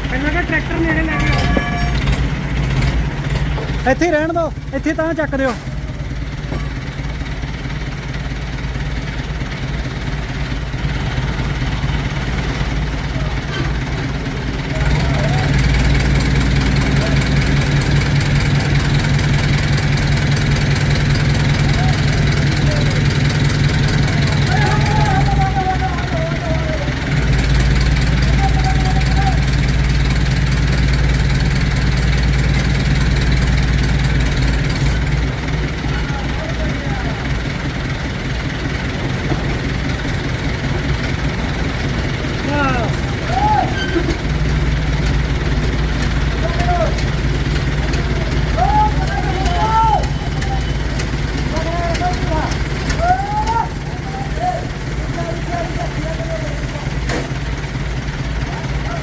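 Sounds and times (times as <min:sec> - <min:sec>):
lathe running: 0:00.0 - 0:58.9.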